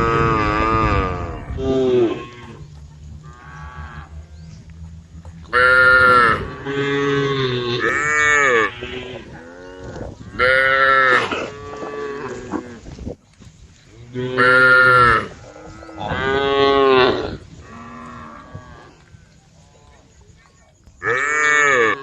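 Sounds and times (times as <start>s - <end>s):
cows mooing: 0.0s - 13.0s, 13.9s - 19.3s, 21.0s - 22.0s.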